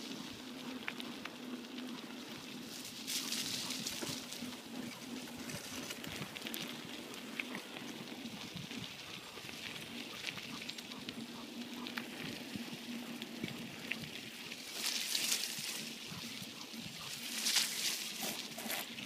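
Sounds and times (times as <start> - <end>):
bicycle tyres on wet gritty lane: 0.0 - 19.0.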